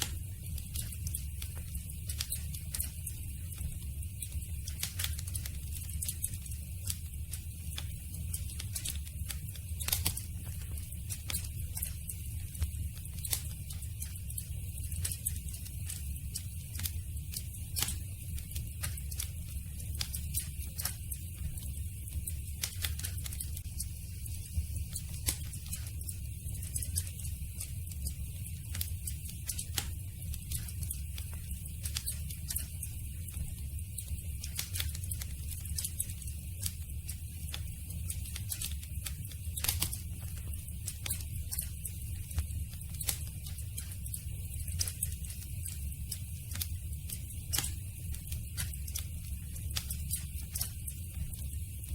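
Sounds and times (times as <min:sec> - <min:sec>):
campfire crackling and popping: 0:00.0 - 0:51.9
low rumble and hiss: 0:00.0 - 0:51.9.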